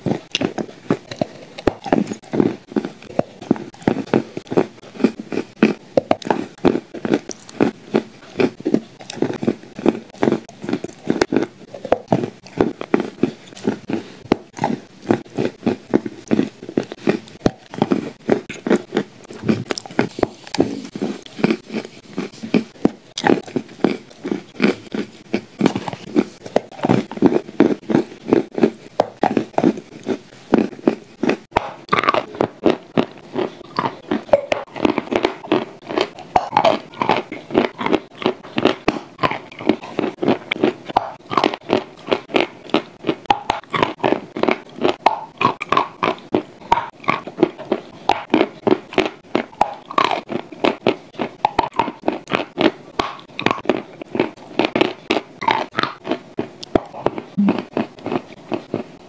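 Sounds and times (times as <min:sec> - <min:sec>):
wet chewing mouth sounds: 0:00.0 - 0:59.0.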